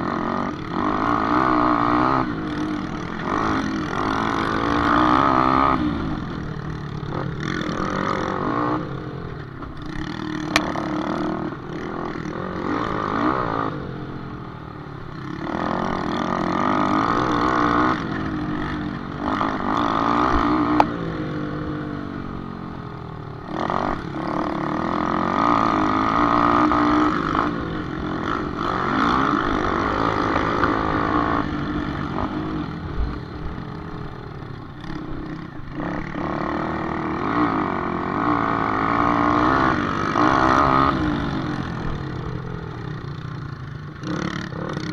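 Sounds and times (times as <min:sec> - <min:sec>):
motorcycles revving: 0:00.0 - 0:44.9.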